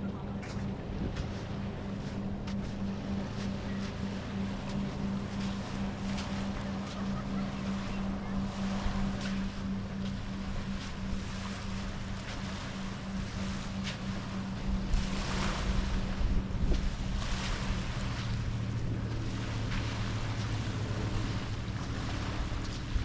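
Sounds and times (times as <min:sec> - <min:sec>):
boat engine humming: 0:00.0 - 0:23.0
footsteps in sand: 0:00.0 - 0:23.0
small waves washing: 0:00.0 - 0:23.0
wind on microphone: 0:00.0 - 0:23.0.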